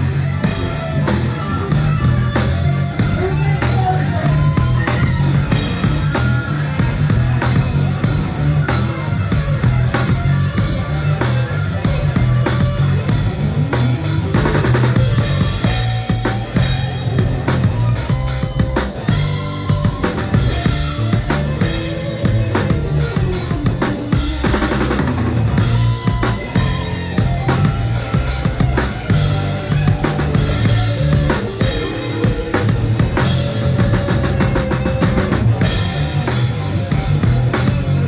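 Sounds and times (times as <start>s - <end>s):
drum kit beat: 0.0s - 38.0s
live rock band playing: 0.0s - 38.0s.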